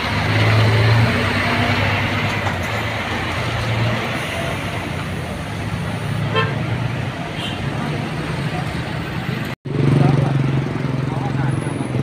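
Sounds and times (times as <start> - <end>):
diesel bus engine humming: 0.0 - 10.1.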